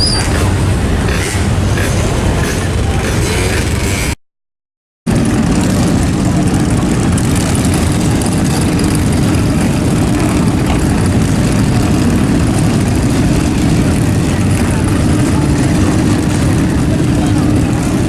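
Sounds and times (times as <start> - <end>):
low rumble of engines running: 0.0 - 4.2, 5.1 - 18.0.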